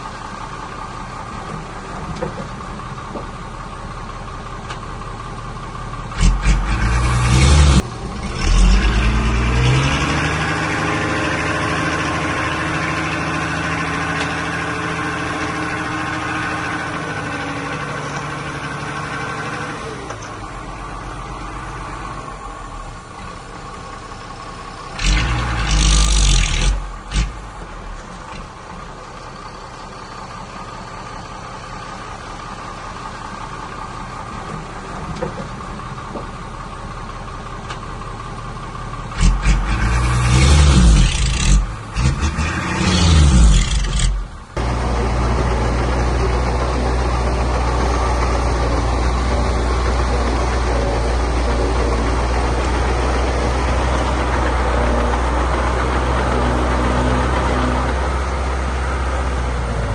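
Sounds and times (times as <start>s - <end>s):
heavy diesel engine revving: 5.3s - 35.3s, 38.2s - 59.9s.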